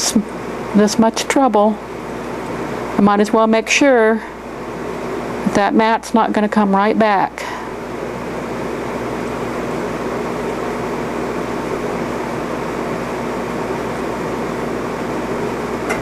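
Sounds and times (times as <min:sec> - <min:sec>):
fan whirring: 0:00.0 - 0:16.0.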